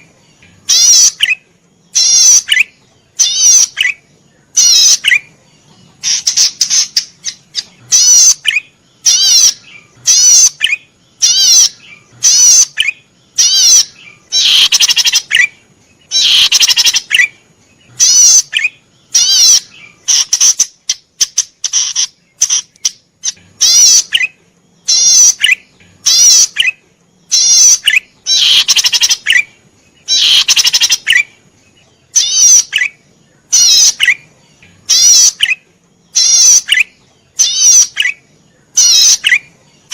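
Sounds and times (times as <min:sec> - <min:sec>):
small bird trilling: 0:00.0 - 0:31.4, 0:32.1 - 0:39.9.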